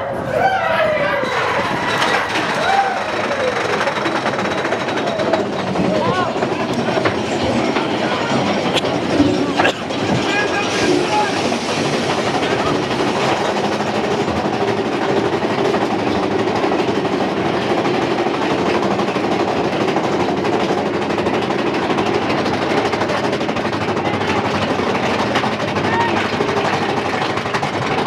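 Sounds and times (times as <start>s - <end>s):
roller coaster wheels rattling: 0.0s - 28.0s.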